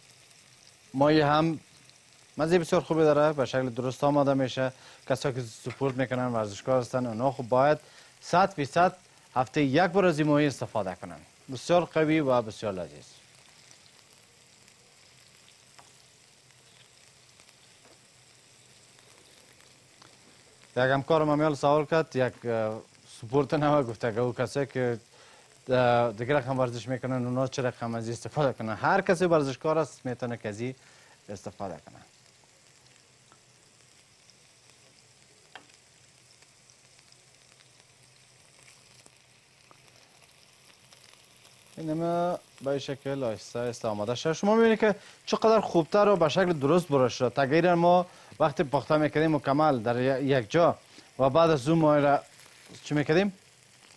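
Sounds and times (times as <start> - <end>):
fish sizzling in oil: 0.0 - 53.9.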